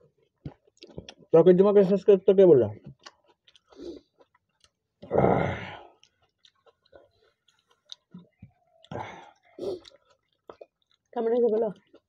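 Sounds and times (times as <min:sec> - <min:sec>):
wet chewing: 0:00.1 - 0:01.3, 0:02.8 - 0:12.0.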